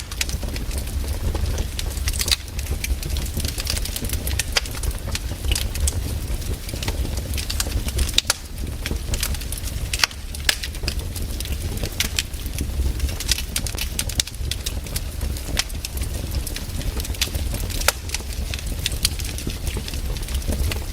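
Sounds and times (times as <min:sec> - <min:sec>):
low steady rumble: 0:00.0 - 0:20.9
wood fire crackling and popping: 0:00.0 - 0:20.9.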